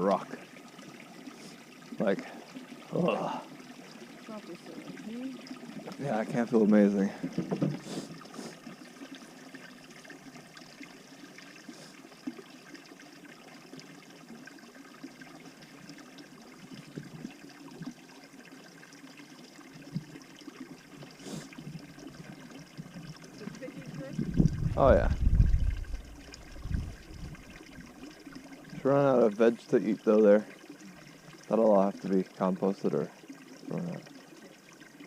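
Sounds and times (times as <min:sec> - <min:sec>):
trickle of running water: 0:00.0 - 0:35.0.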